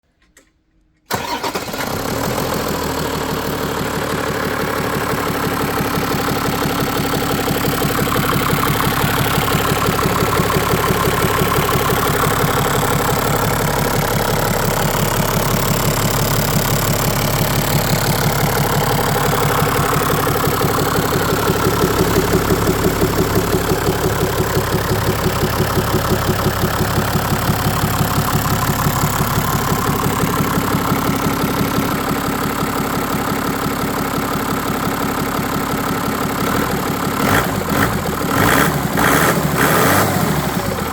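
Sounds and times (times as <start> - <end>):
diesel engine starting and idling: 1.1 - 40.9.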